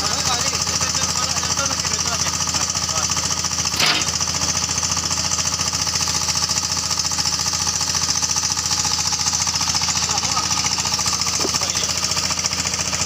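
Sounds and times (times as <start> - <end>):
stationary engine running: 0.0 - 13.0.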